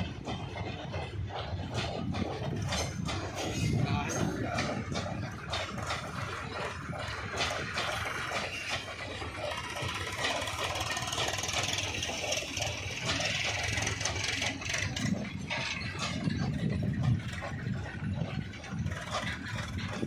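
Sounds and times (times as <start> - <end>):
train rumble: 0.0 - 20.0
train wheels clattering: 0.0 - 20.0.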